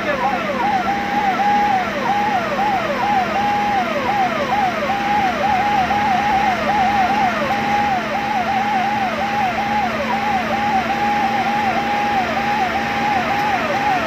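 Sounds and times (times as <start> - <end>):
electronic siren: 0.0 - 14.0.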